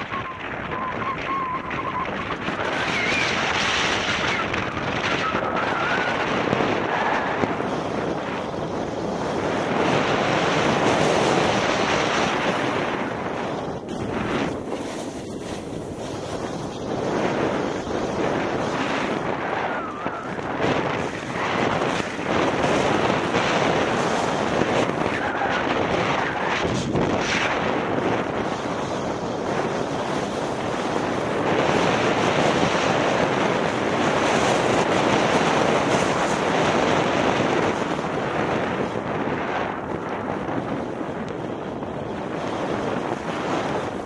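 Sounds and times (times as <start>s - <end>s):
snowboard carving over snow: 0.0s - 44.0s
wind buffeting microphone: 0.0s - 44.0s.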